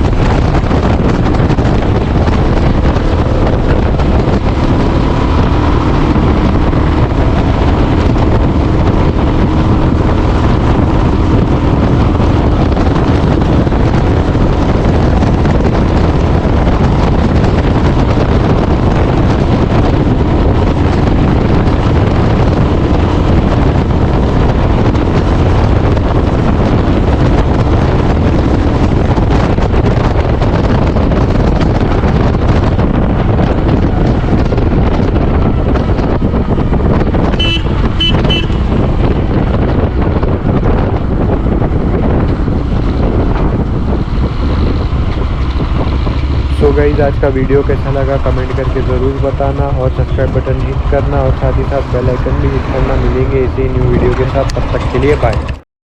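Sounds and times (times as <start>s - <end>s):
motorcycle engine exhaust note: 0.0s - 55.6s
wind buffeting microphone: 0.0s - 55.6s.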